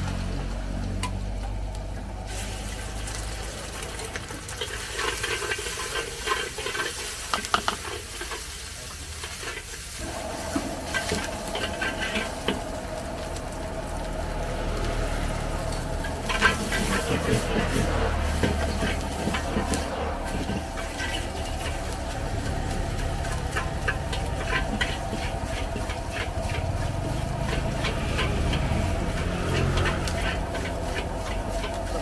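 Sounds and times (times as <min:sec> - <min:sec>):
food sizzling: 0:00.0 - 0:32.0
gas burner rushing: 0:00.0 - 0:32.0
metal spatula scraping wok: 0:04.5 - 0:32.0.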